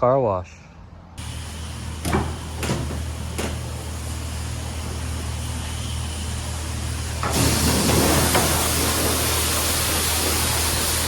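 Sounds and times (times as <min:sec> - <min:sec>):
engine humming and hissing: 0:01.1 - 0:11.0.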